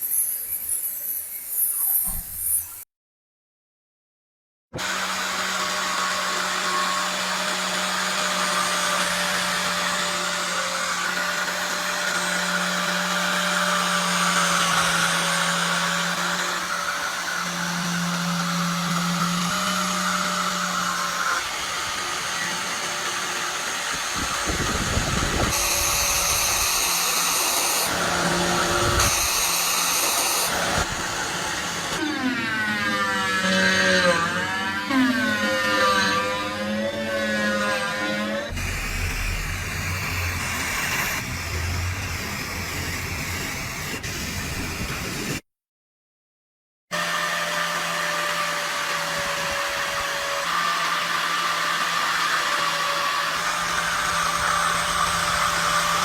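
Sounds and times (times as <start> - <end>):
electric power tool whining: 4.8 - 45.4, 47.0 - 56.0.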